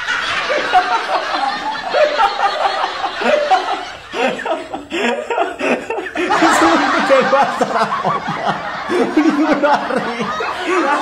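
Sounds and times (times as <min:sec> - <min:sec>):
man laughing: 0:00.4 - 0:11.0.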